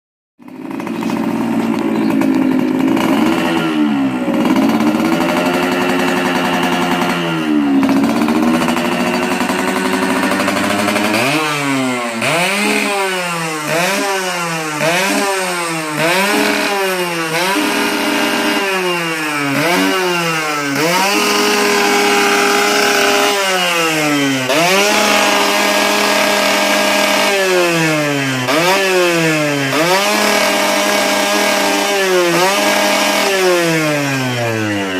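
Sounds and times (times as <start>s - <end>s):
two-stroke motorcycle engine revving: 0.4s - 34.9s.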